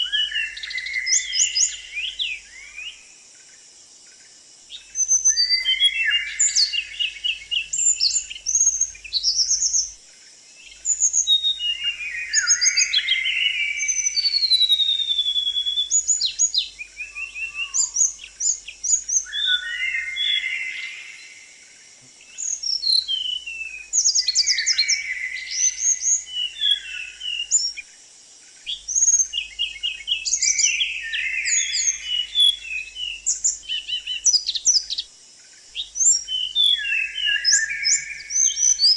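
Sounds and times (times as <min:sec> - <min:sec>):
small songbird singing: 0:00.0 - 0:38.9.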